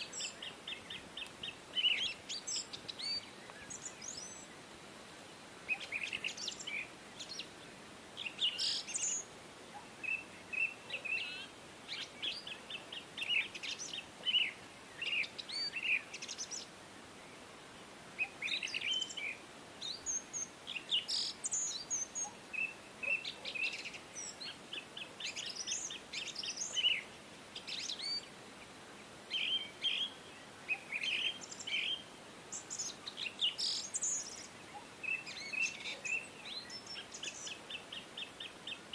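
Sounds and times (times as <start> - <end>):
birds chirping: 0.0 - 38.9
faint steady hiss: 0.0 - 38.9.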